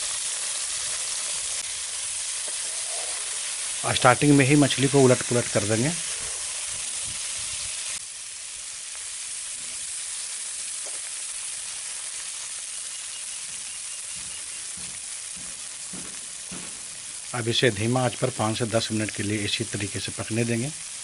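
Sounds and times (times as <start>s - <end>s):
fish sizzling in hot oil: 0.0s - 21.0s.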